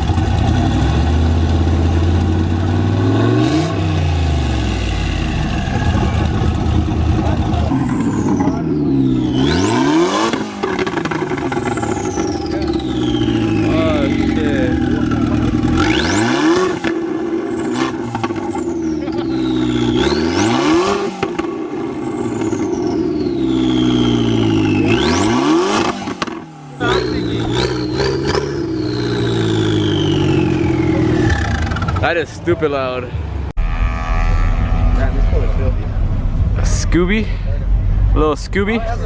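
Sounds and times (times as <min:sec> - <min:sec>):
car engine revving: 0:00.0 - 0:32.3.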